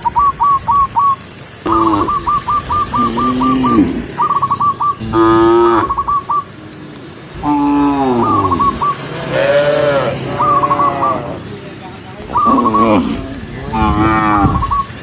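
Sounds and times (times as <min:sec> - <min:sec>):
cows mooing: 0:01.6 - 0:14.9.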